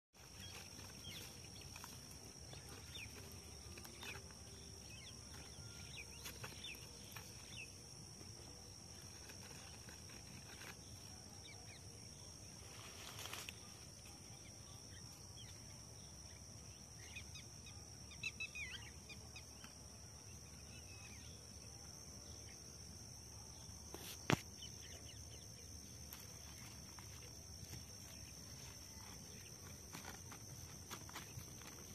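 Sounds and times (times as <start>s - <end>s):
insect drone: 0.2s - 31.9s.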